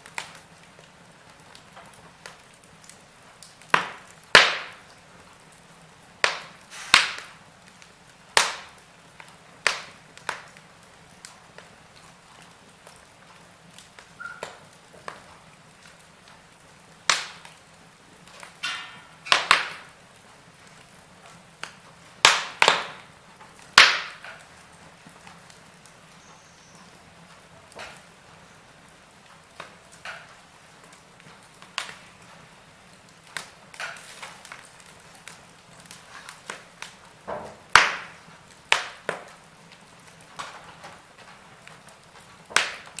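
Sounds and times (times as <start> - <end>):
soft hiss of fire: 0.0 - 43.0
wood fire crackling: 0.0 - 43.0.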